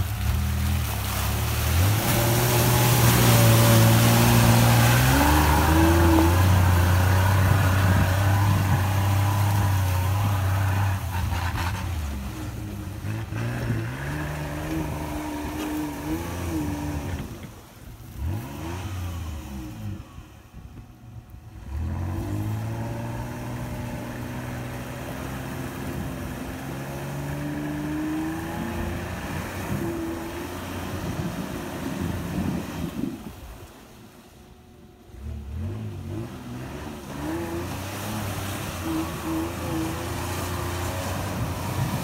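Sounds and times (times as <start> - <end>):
off-road engine revving: 0.0 - 33.3, 35.0 - 42.0.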